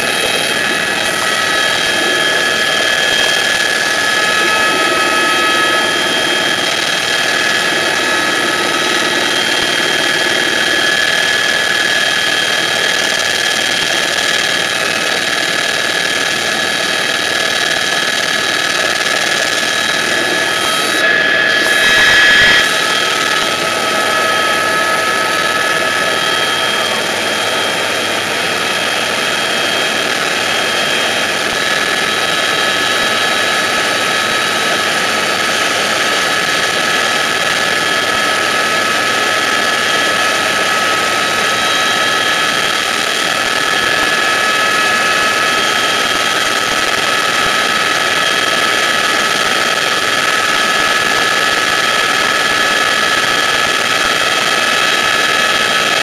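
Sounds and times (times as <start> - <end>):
helicopter turbine whine: 0.0 - 56.0
rotor and engine roar: 0.0 - 56.0.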